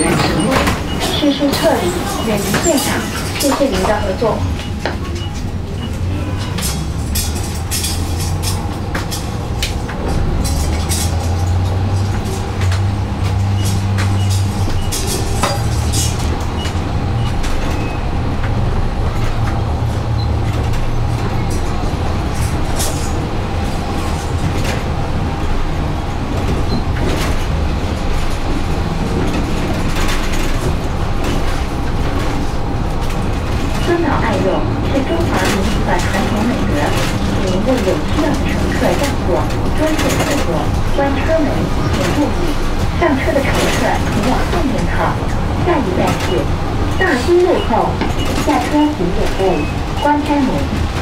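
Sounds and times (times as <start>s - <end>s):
body clicks and rattles: 0.0s - 51.0s
trolleybus drive hum: 0.0s - 51.0s
tyres on wet road: 0.0s - 51.0s.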